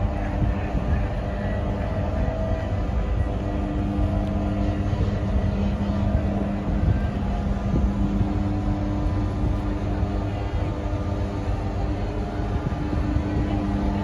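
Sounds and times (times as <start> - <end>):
ship engines rumbling: 0.0 - 14.0.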